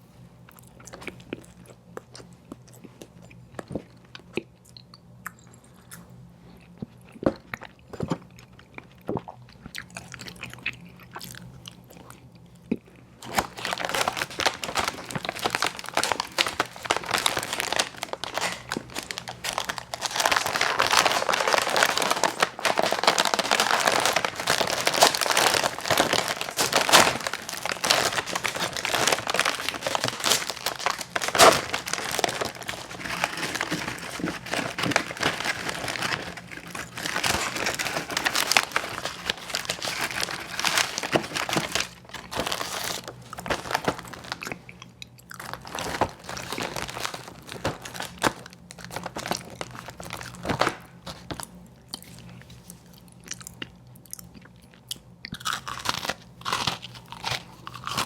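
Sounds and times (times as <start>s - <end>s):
ice cream sandwich crinkling and crunching: 0.4s - 58.0s.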